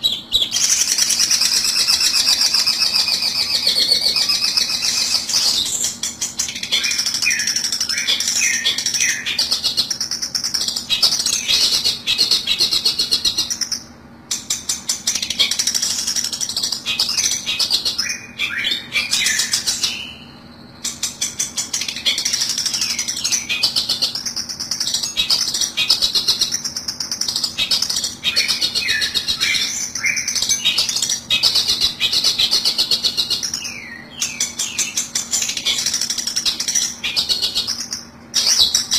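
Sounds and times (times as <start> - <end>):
harsh chattering bird calls: 0.0 - 38.9.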